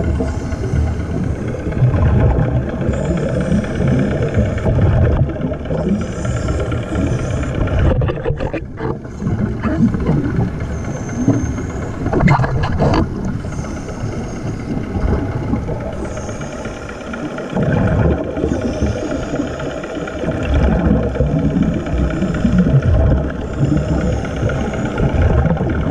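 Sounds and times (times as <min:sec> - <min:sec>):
exhaled air bubbles: 0:00.0 - 0:25.9
underwater motor drone: 0:00.0 - 0:25.9.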